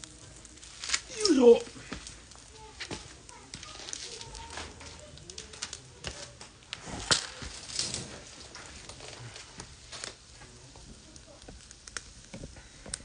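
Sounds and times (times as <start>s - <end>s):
charcoal fire crackling: 0.0s - 13.0s.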